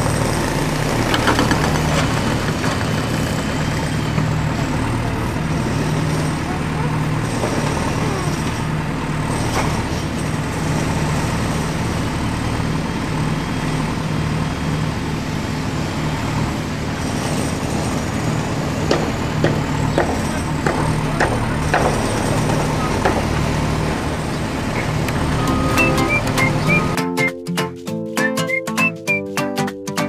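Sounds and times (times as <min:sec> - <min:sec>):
truck engine idling: 0:00.0 - 0:27.0.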